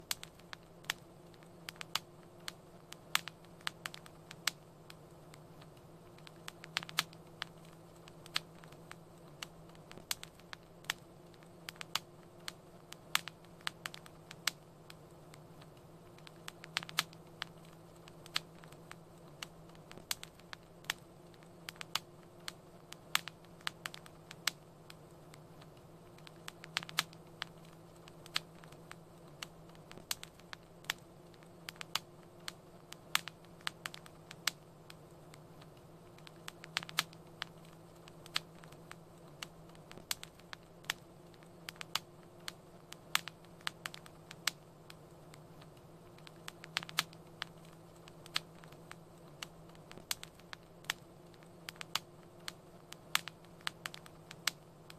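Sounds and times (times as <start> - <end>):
faint low hum: 0.0 - 54.9
wood fire crackling and popping: 0.0 - 54.9.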